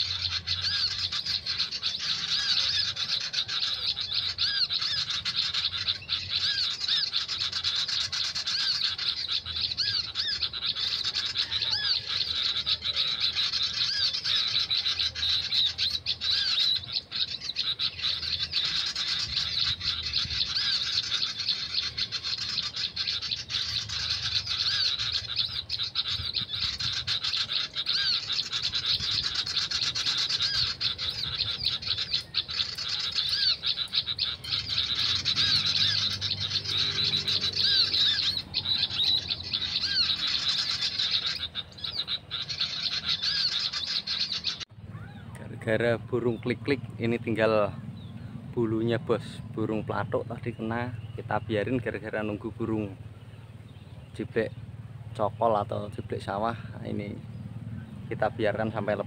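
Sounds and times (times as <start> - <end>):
birds chattering and calling: 0.0 - 59.0.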